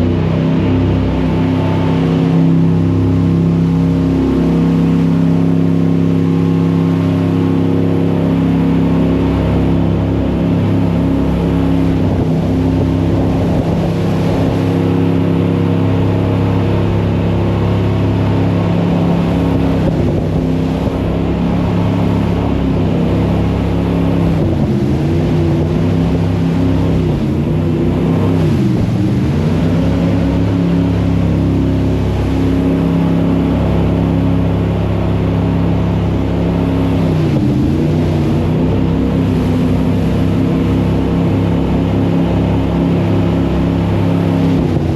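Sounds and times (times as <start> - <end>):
jet boat engine running hard: 0.0 - 44.9
rushing wind and water: 0.0 - 44.9.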